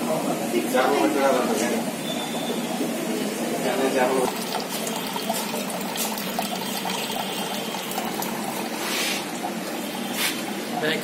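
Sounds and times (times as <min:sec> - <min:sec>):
aquarium water bubbling: 0:01.4 - 0:11.0.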